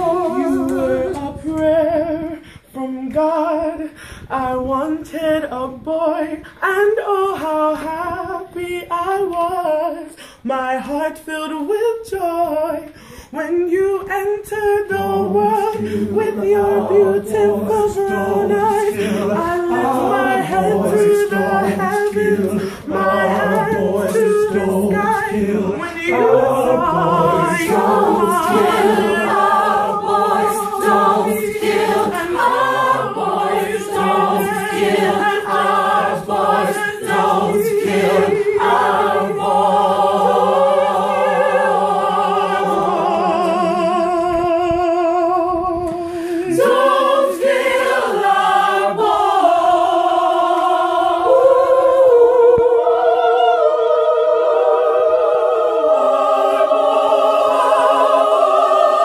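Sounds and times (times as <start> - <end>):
vocal ensemble singing chords: 0.0 - 7.9, 12.0 - 59.0.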